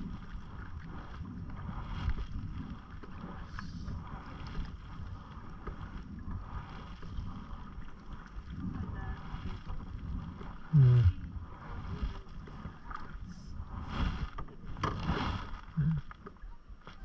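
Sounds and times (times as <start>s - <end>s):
canoe paddle strokes in water: 0.0s - 17.0s.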